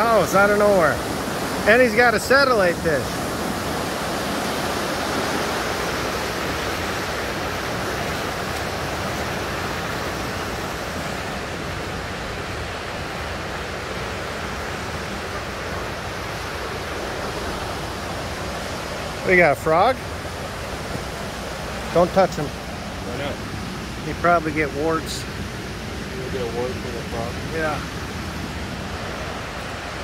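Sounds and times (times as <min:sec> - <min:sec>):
river rapids rushing: 0:00.0 - 0:30.0.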